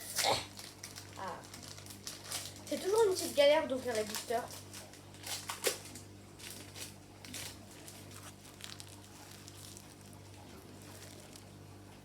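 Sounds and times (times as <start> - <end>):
foil wrapper crinkling and tearing: 0.5 - 12.0.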